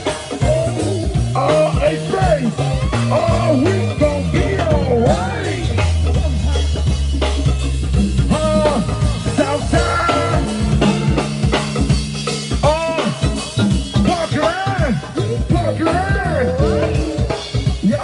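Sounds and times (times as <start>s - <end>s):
man singing: 0.0s - 6.4s, 8.2s - 10.9s, 12.5s - 18.0s
live band playing: 0.0s - 18.0s.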